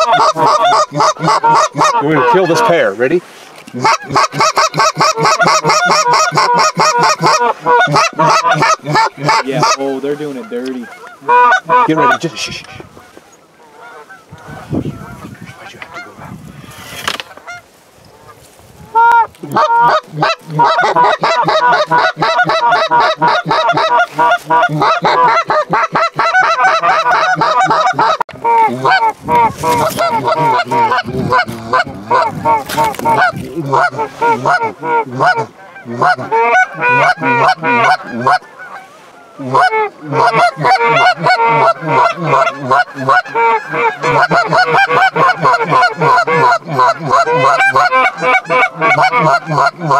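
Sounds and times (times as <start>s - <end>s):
goose calls honking and clucking: 0.0s - 49.9s.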